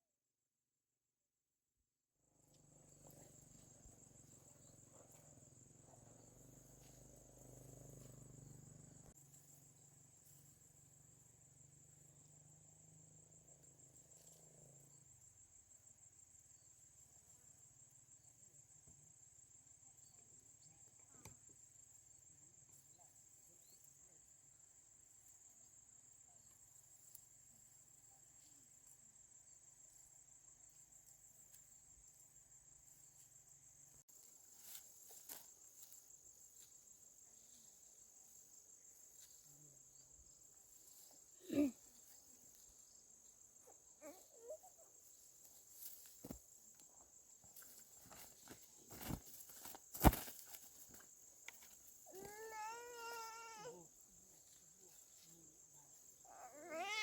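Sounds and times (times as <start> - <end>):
crickets trilling: 2.5 - 57.0.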